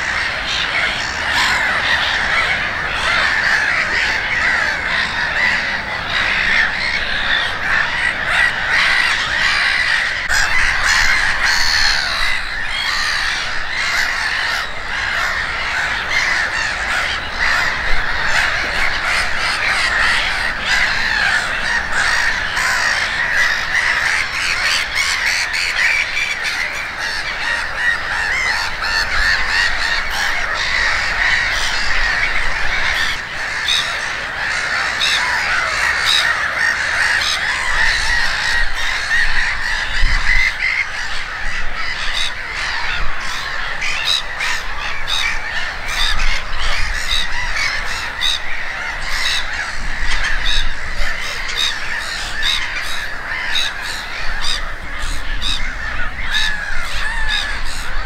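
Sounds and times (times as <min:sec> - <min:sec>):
gulls calling: 0:00.0 - 0:58.0.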